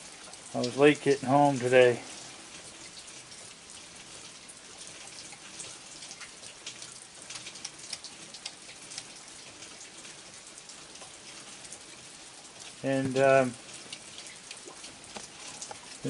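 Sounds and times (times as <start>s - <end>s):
rain falling: 0.0s - 16.0s
raindrops ticking: 0.0s - 16.0s.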